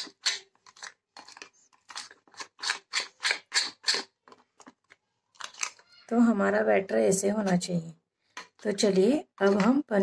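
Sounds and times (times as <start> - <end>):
spoon stirring thick batter: 0.0 - 10.0.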